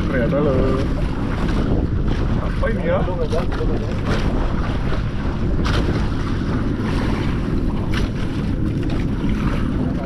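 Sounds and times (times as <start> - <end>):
short splashes: 0.0 - 10.0
water sloshing against boat hull: 0.0 - 10.0
wind buffeting microphone: 0.0 - 10.0.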